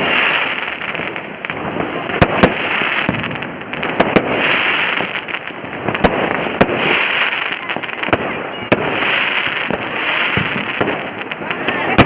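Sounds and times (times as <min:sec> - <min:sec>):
firecrackers crackling: 0:00.0 - 0:12.0
loud firecracker bangs: 0:00.0 - 0:12.0.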